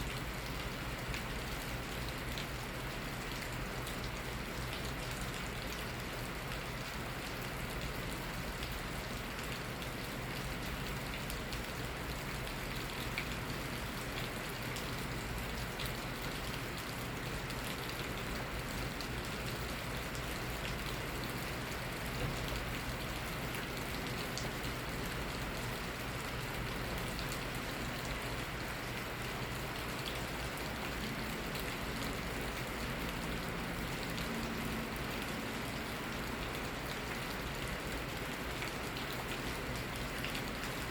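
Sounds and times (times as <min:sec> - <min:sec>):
raindrops pattering on surfaces: 0:00.0 - 0:40.9
steady rain: 0:00.0 - 0:40.9.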